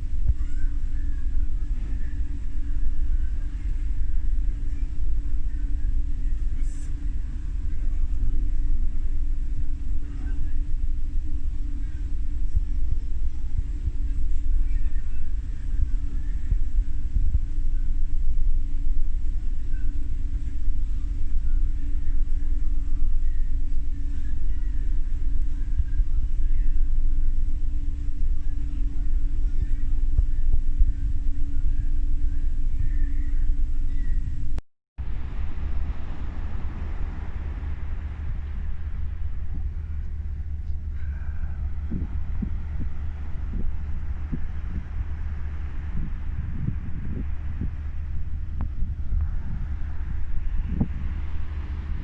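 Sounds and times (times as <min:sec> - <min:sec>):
ferry engines rumbling: 0:00.0 - 0:52.0.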